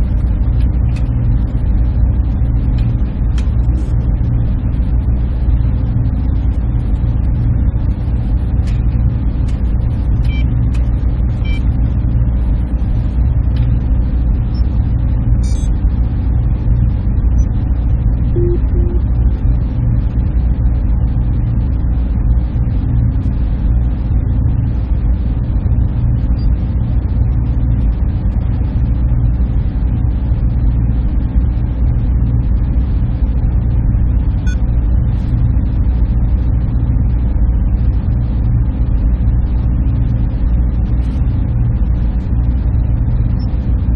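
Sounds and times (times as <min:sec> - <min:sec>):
machines and cooling drone: 0:00.0 - 0:43.9.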